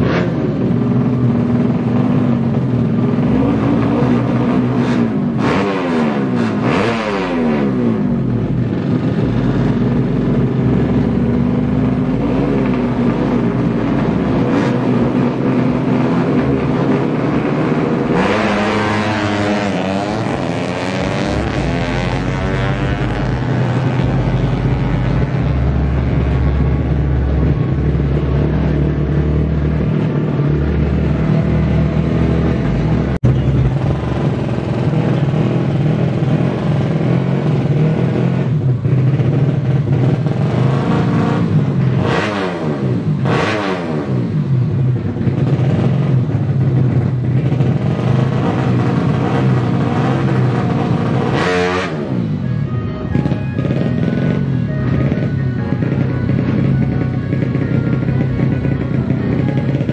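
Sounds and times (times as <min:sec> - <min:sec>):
motorcycle engine revving and accelerating: 0:00.0 - 0:59.9
second motorcycle engine revving: 0:00.0 - 0:59.9.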